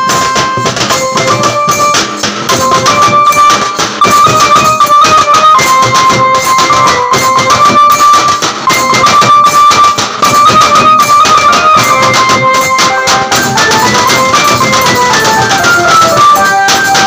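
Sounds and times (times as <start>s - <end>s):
bass drums beating: 0.0s - 17.0s
electronic keyboard melody: 0.0s - 17.0s.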